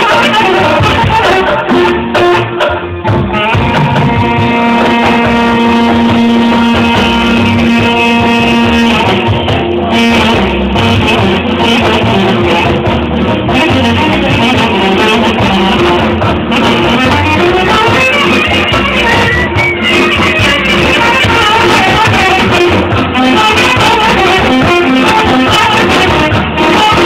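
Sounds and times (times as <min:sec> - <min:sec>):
live band music: 0:00.0 - 0:27.0.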